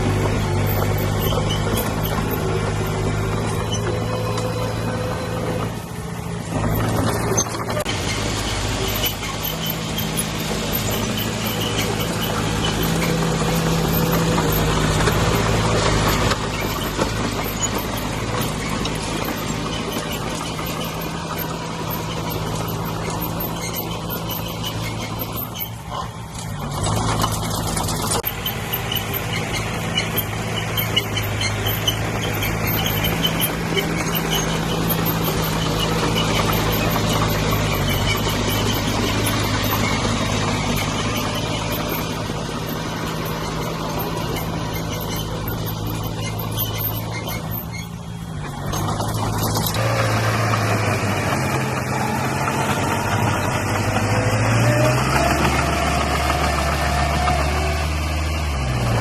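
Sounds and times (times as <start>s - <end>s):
heavy machinery diesel engine: 0.0s - 59.0s.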